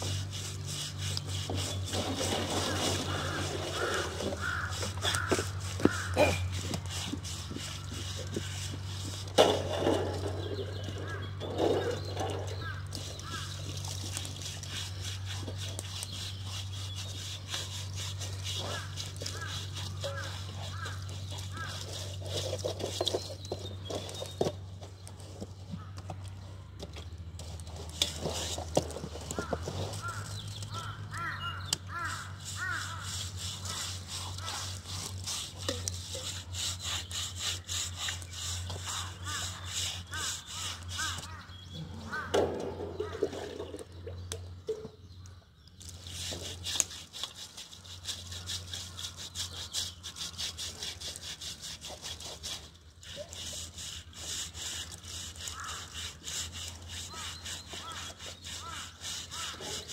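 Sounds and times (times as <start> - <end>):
blade scraping pig hide: 0.0 - 26.4, 27.3 - 43.8, 45.8 - 59.9.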